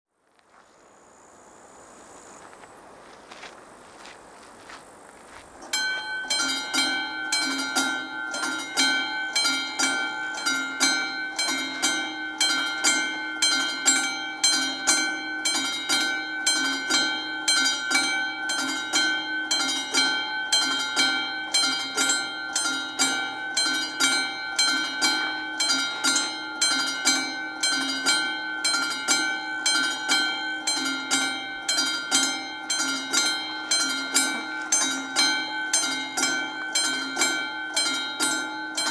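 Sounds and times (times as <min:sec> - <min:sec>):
level crossing bell ringing: 0:05.7 - 0:38.9.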